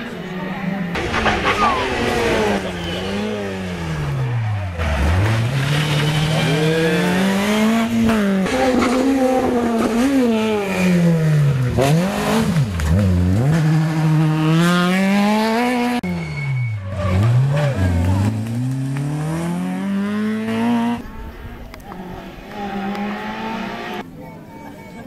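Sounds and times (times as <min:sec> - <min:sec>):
rally car engines revving: 0:00.0 - 0:24.2.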